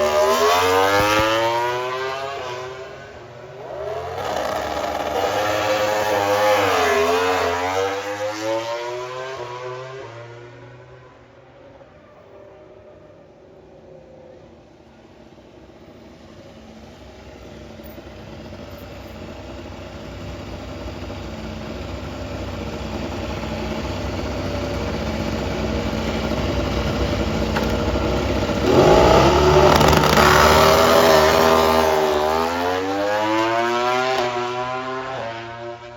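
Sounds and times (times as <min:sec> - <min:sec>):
racing motorcycle engines accelerating: 0:00.0 - 0:13.4, 0:15.5 - 0:35.9.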